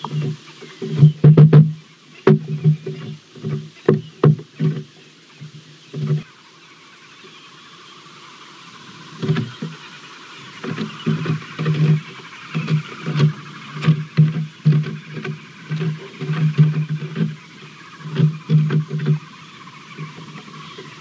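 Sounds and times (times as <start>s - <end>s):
woodpecker pecking wood: 0.0s - 6.3s, 9.1s - 9.8s, 10.5s - 21.0s.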